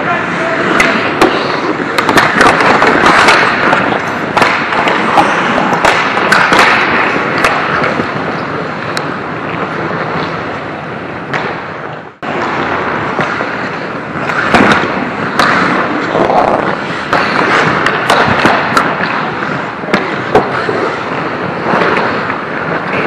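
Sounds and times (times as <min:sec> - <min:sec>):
skate blades scraping ice: 0:00.0 - 0:23.0
sticks and puck clacking: 0:00.0 - 0:23.0.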